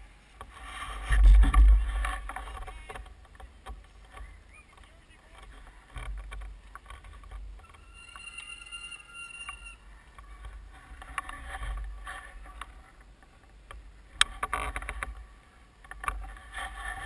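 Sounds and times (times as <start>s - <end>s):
bicycle clicking and rattling: 1.1s - 17.0s.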